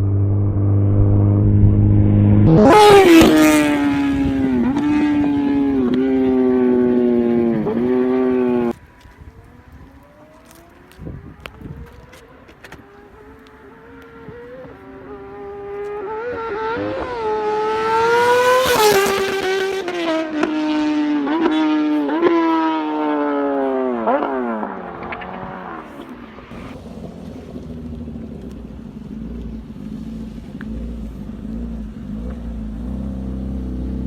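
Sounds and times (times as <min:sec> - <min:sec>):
high-revving motorcycle passing by: 0:00.0 - 0:34.0.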